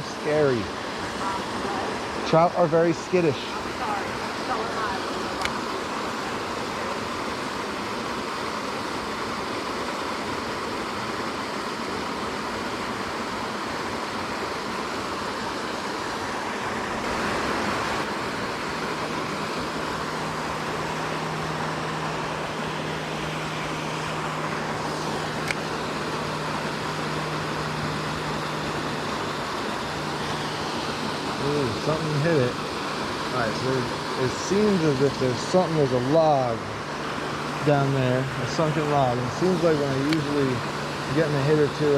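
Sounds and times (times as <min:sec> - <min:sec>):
small waterfall rushing: 0:00.0 - 0:41.9.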